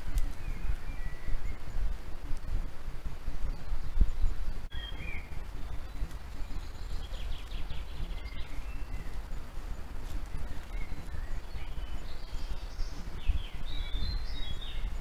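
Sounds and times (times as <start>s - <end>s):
faint high bird calls: 0.0s - 2.3s, 3.4s - 15.0s.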